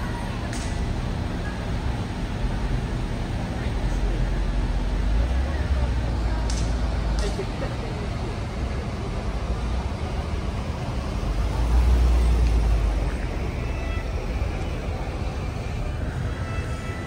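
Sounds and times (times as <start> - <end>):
street traffic noise: 0.0 - 17.0
vehicle engine rumble passing: 0.0 - 17.0.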